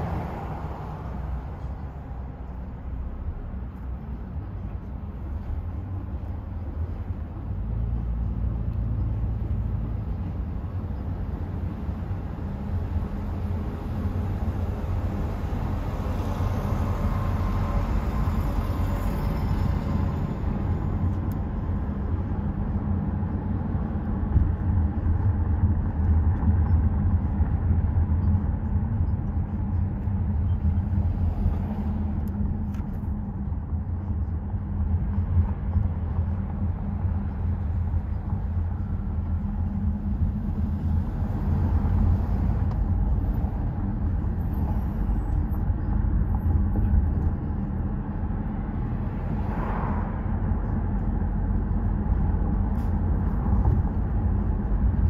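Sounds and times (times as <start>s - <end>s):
car interior rumble: 0.0s - 55.0s
road and wind noise: 0.0s - 55.0s.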